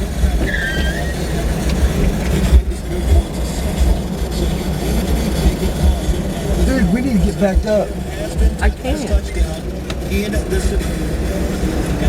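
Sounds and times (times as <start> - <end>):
faint radio speech: 0.0 - 12.0.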